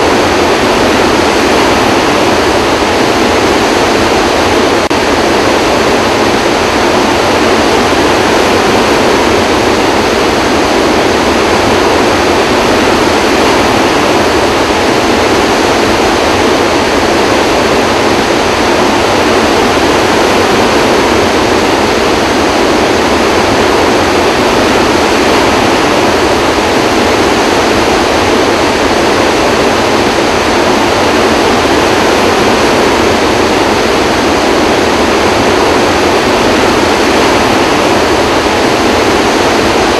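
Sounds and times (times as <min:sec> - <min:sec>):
loud rush of water: 0:00.0 - 0:39.9.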